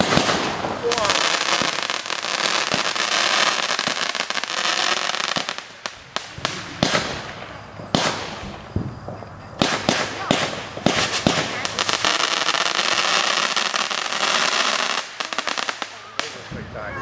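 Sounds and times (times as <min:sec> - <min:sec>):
fireworks crackling: 0:00.0 - 0:17.0
fireworks sharp bangs: 0:00.0 - 0:17.0.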